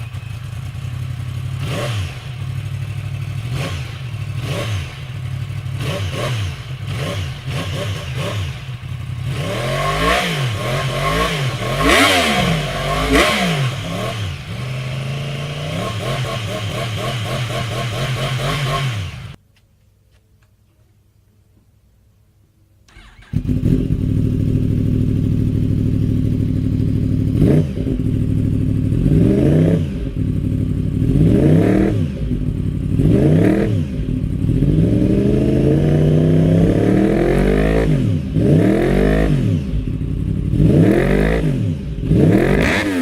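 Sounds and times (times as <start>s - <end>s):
motorcycle engine revving: 0.0s - 19.4s, 22.9s - 43.0s.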